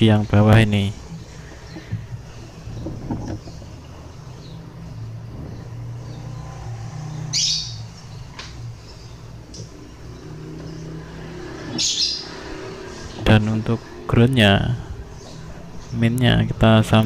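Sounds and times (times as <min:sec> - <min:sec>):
bird chirping: 0:00.0 - 0:17.0
steady low hum: 0:00.0 - 0:17.0.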